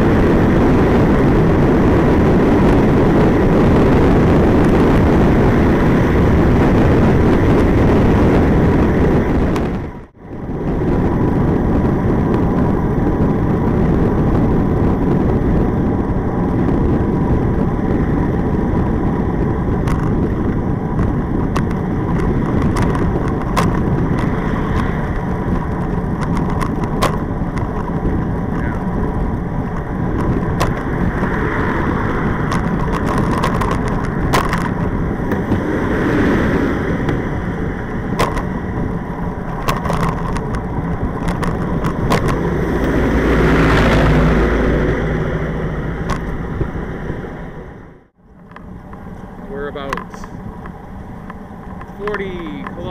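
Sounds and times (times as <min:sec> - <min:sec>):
wheels clicking over bumps: 0:00.0 - 0:52.9
wind and road rush: 0:00.0 - 0:52.9.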